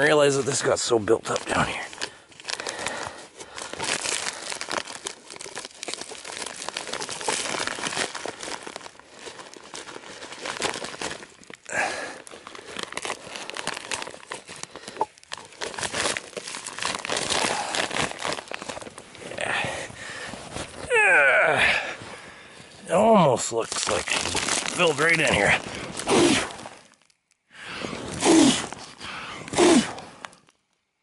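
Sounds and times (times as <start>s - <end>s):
plastic wrap crinkling: 0.0s - 21.0s, 23.4s - 30.9s.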